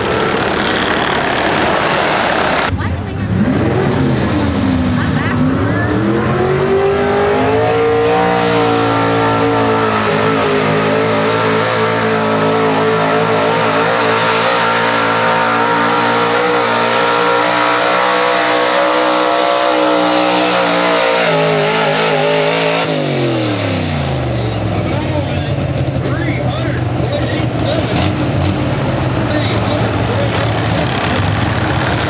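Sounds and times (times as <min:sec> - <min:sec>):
tires spinning in dirt: 0:00.0 - 0:02.7, 0:03.4 - 0:32.0
truck engine at high revs: 0:00.0 - 0:32.0.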